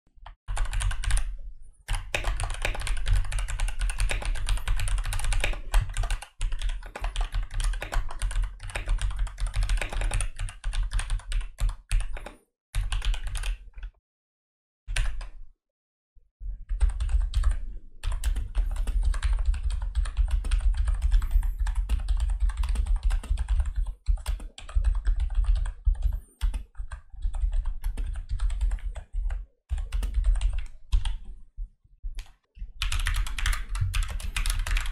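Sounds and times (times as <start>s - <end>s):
fast typing on keyboard: 0.5s - 1.3s, 1.9s - 13.6s, 16.7s - 31.2s, 32.8s - 34.9s.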